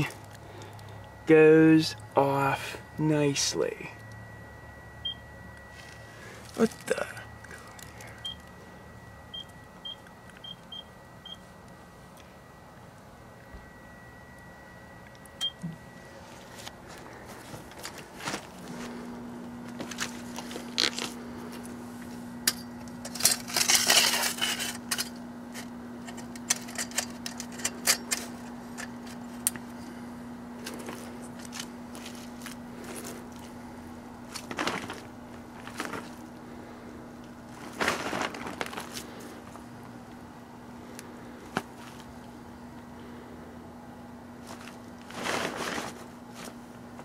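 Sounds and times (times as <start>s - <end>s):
microwave oven humming: 0.0s - 47.0s.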